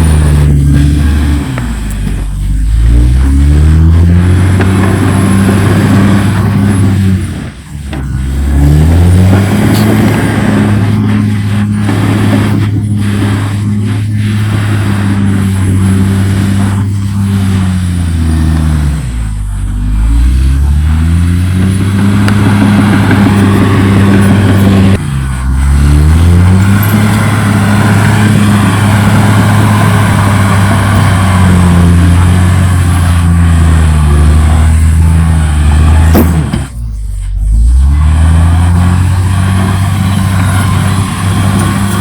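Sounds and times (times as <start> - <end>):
bulldozer diesel engine running: 0.0 - 42.0.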